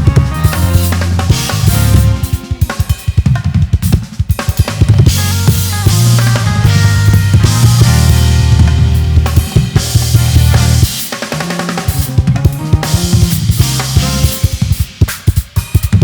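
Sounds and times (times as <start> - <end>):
live band playing: 0.0 - 15.8
quick drum strokes: 0.0 - 16.0.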